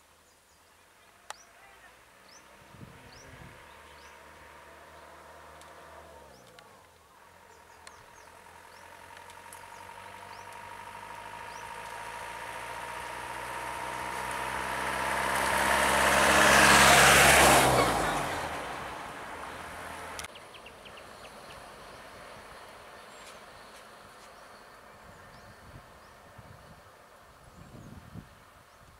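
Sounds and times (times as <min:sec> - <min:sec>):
truck driving past: 0:01.9 - 0:25.2.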